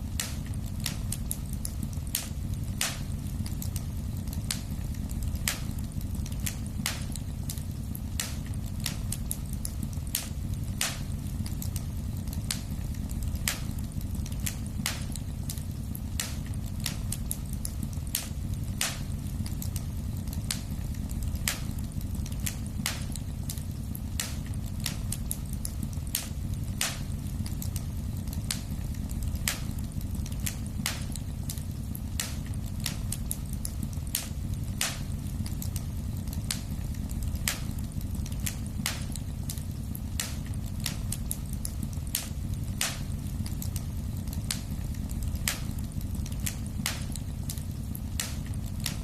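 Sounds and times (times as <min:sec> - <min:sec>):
low rumble of flames: 0:00.0 - 0:49.0
wood fire crackling and popping: 0:00.0 - 0:49.0.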